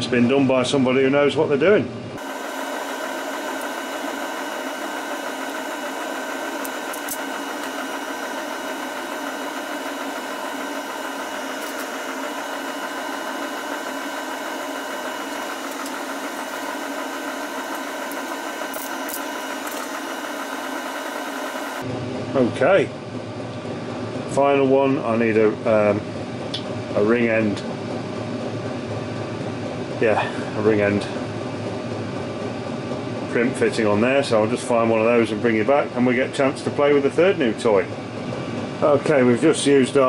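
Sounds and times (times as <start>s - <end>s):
space heater whirring: 0.1s - 40.0s.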